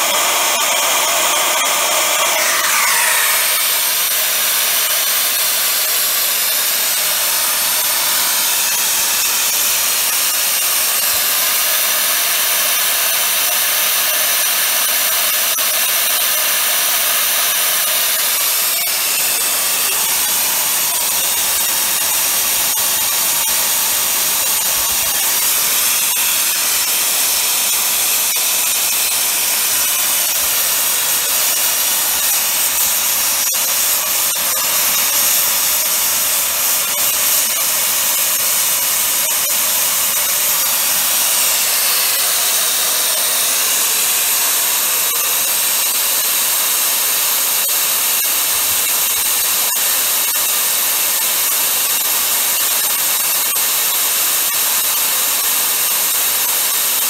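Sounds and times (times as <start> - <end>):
loud hiss of escaping steam: 0.0 - 57.0.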